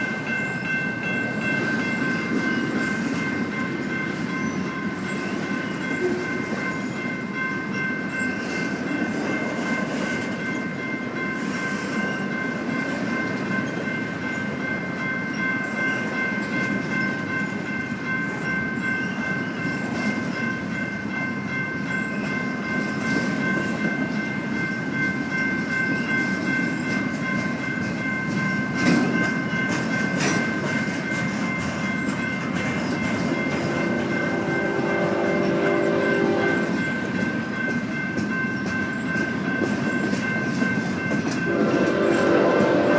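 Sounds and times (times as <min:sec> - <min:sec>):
high ringing tones: 0:00.0 - 0:42.9
train rumbling on rails: 0:00.0 - 0:42.9.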